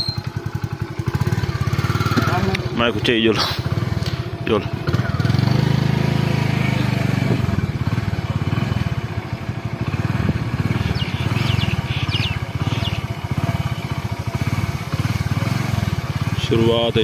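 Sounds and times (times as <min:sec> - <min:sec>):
motorcycle engine puttering: 0:00.0 - 0:17.0.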